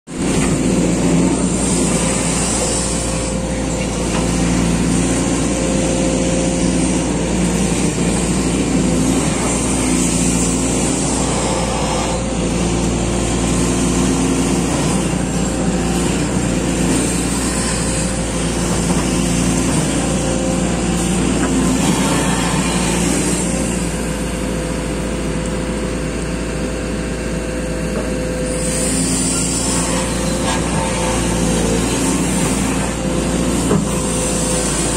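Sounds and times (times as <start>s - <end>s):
excavator diesel engine under load: 0.1s - 34.9s.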